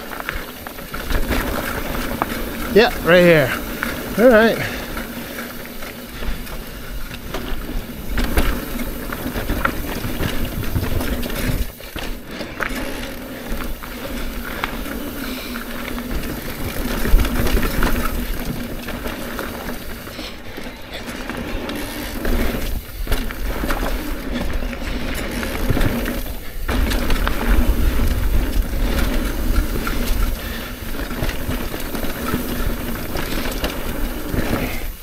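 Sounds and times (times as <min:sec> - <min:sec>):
bike rattling and knocking: 0:00.0 - 0:35.0
tyres rolling on dirt: 0:00.0 - 0:35.0.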